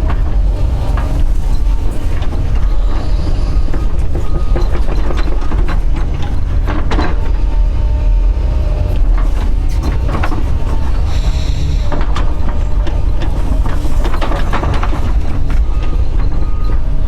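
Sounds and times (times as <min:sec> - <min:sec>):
machine clanks and knocks: 0:00.0 - 0:07.7, 0:09.0 - 0:17.0
excavator diesel engine running: 0:00.0 - 0:17.0.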